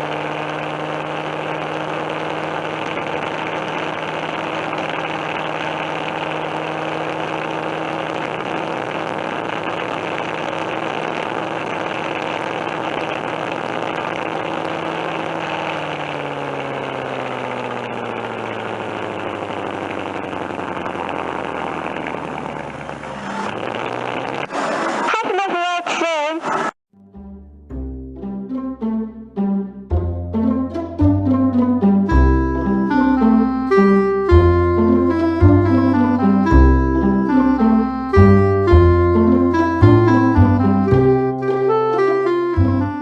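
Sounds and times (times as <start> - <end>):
kiddie ride mechanical drone: 0.0 - 25.0, 27.8 - 43.0.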